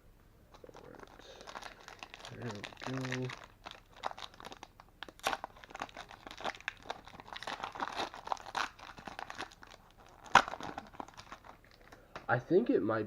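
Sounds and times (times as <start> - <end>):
plastic wrapper crinkling and tearing: 0.5 - 12.0.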